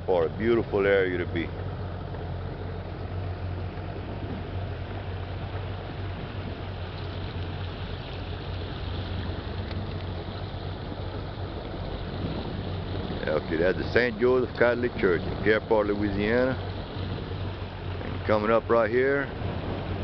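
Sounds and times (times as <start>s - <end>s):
boat motor droning: 0.0s - 20.0s
water rushing hiss: 2.4s - 20.0s.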